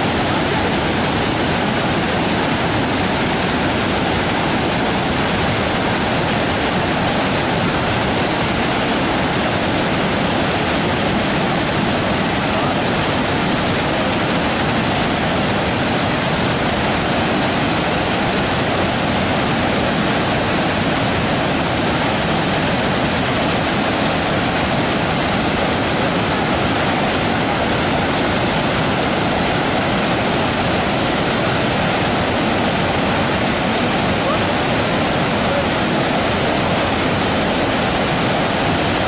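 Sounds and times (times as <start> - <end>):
waterfall rushing over rocks: 0.0 - 39.0.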